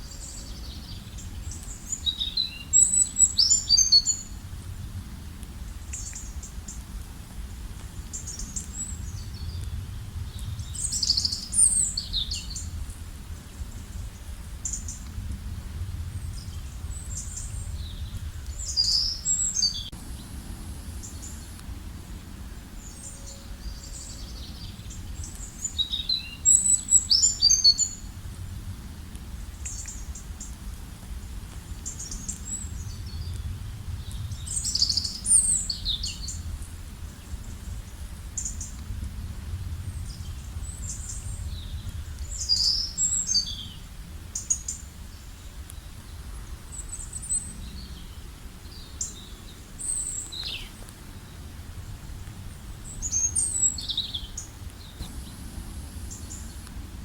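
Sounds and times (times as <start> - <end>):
songbirds chirping and trilling: 0.0 - 39.0, 39.6 - 57.0
steady low rumble: 0.0 - 57.0.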